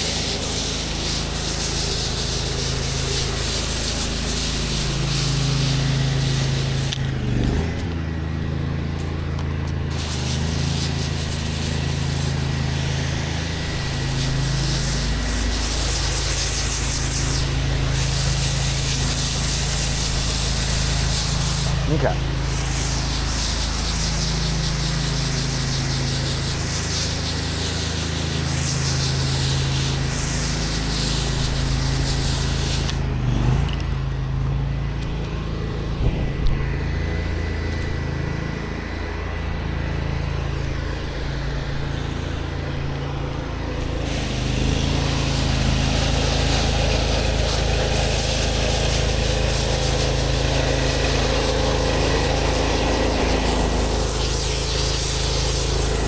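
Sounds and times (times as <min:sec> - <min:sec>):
water spray hissing: 0:00.0 - 0:33.8, 0:42.5 - 0:56.0
pressure washer engine running: 0:00.0 - 0:56.0.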